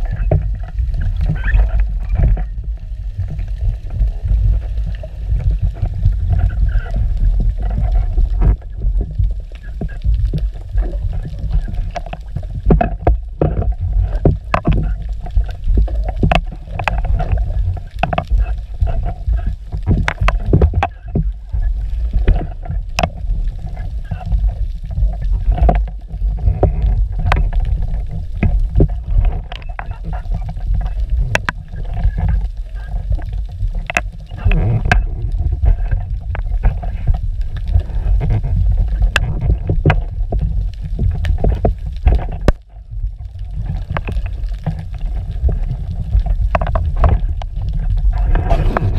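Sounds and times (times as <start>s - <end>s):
muffled underwater rumble: 0.0s - 48.9s.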